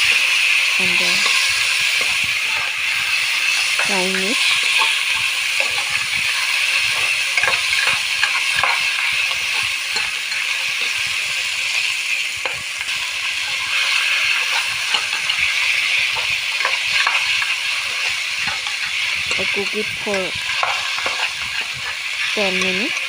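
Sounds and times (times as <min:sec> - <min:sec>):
tomatoes sizzling in oil: 0:00.0 - 0:23.0.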